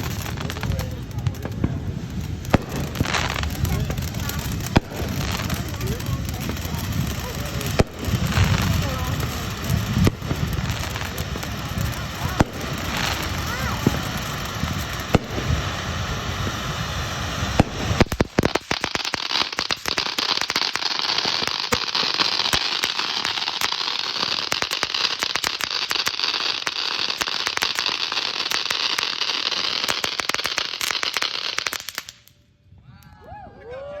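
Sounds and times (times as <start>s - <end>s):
firework fountain hissing: 0.0s - 32.3s
firework crackling: 0.0s - 32.4s.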